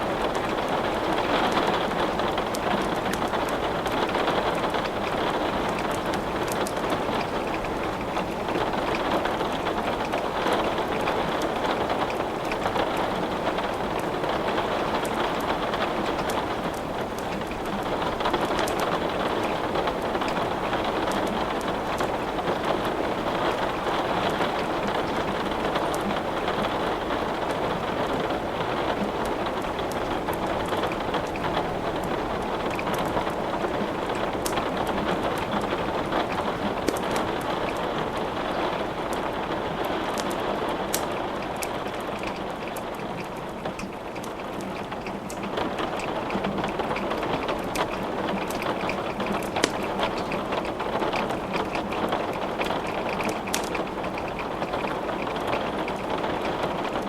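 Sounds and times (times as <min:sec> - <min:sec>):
steady rain falling: 0:00.0 - 0:57.0
wood crackling in a fireplace: 0:00.0 - 0:57.0.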